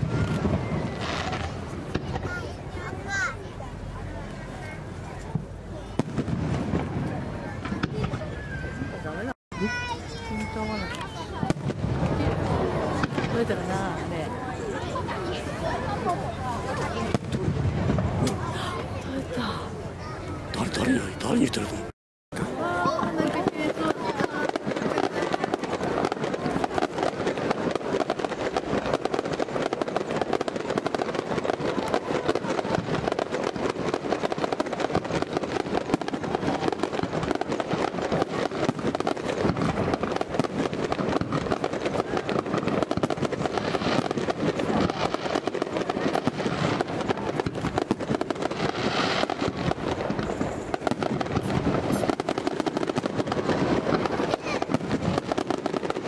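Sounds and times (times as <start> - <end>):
firework bursts and crackling: 0.0 - 56.0.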